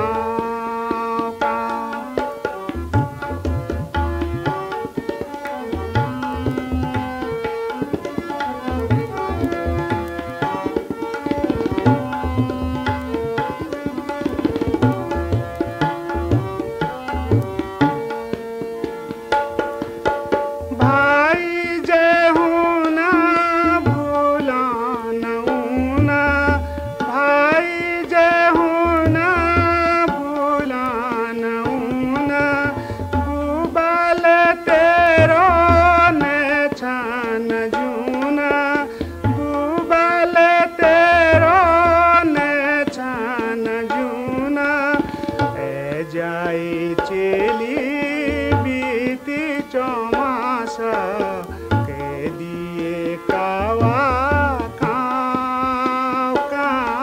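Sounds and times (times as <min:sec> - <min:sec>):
man singing: 0:00.0 - 0:18.4, 0:20.7 - 0:57.0
tabla: 0:00.0 - 0:57.0.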